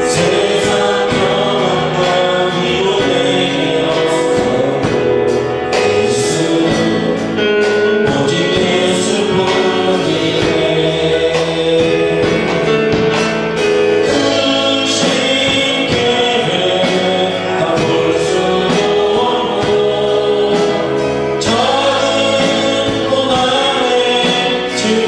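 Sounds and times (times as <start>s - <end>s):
group singing: 0.0s - 25.0s
worship band playing: 0.0s - 25.0s.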